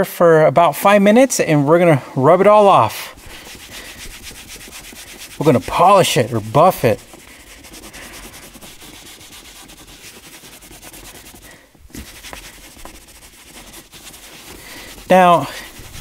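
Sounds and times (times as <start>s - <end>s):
towel rubbing on leather: 2.6s - 16.0s.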